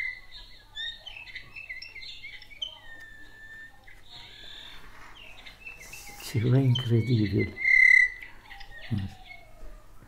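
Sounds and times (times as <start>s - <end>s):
recorded songbird chirps and whistles: 0.0s - 10.0s.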